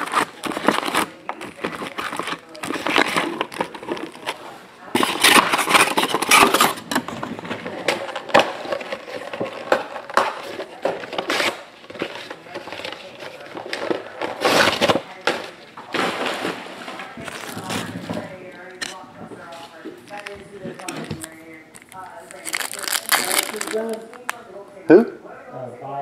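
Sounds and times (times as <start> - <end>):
plastic and cardboard rustling: 0.0 - 24.4.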